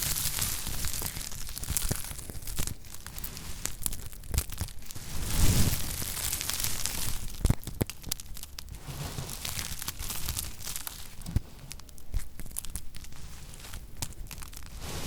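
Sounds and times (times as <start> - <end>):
knife cutting soap crunching: 0.0 - 5.0, 5.9 - 14.9.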